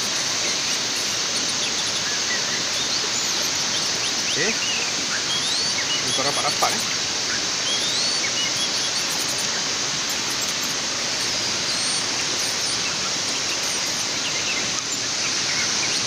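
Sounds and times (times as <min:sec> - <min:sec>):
bird chirps: 0:00.0 - 0:07.0, 0:07.6 - 0:16.0
outdoor background hiss: 0:00.0 - 0:16.0.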